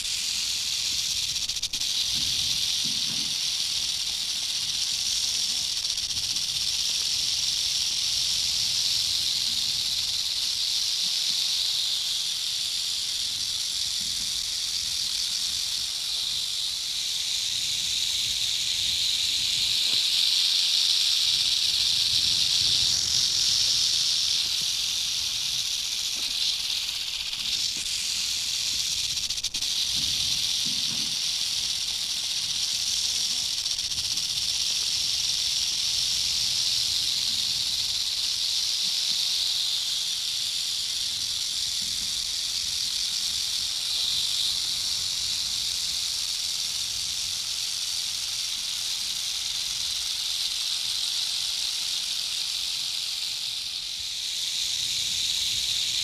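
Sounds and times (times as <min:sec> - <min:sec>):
rattlesnake tail rattle buzzing: 0:00.0 - 0:56.0.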